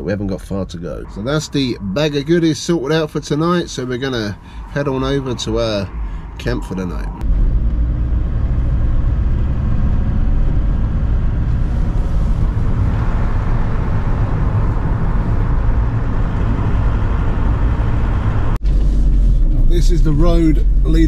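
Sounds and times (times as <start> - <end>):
van engine rumble: 0.0 - 21.0.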